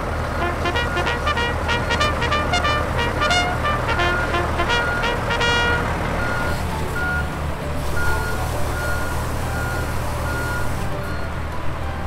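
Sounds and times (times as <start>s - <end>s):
excavator engine hum: 0.0s - 12.0s
few notes of music: 0.4s - 12.0s.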